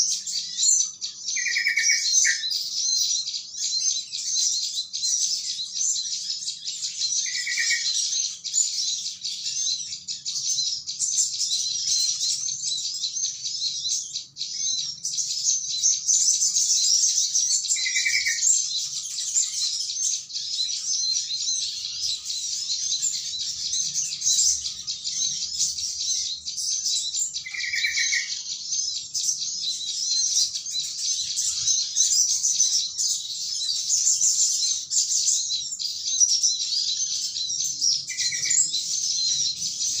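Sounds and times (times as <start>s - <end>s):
flock of small birds chattering: 0.0s - 40.0s.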